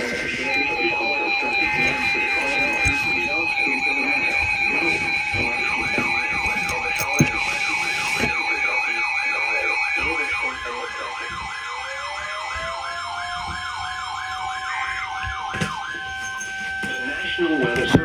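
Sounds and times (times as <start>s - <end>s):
electronic siren yelping: 0.0s - 18.0s
steady high tone: 0.0s - 18.0s.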